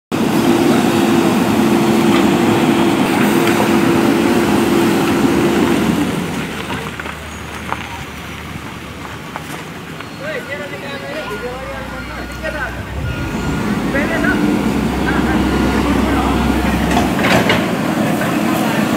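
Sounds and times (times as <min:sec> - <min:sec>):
backhoe diesel engine and hydraulics: 0:00.2 - 0:18.9.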